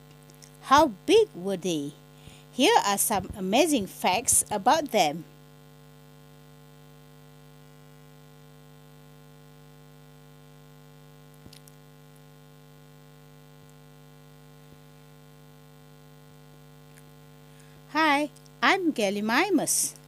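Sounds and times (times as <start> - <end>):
faint electrical mains hum: 0.0 - 20.0.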